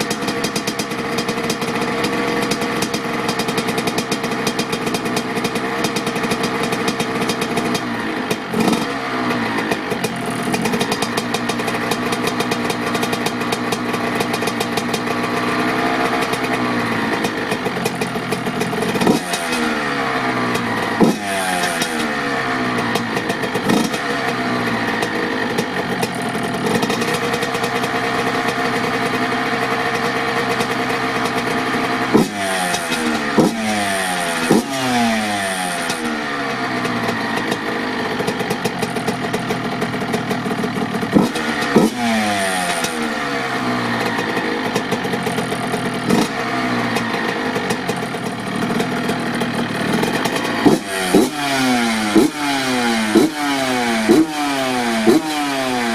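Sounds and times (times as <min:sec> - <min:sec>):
two-stroke engine throttle blips: 0:00.0 - 0:55.9.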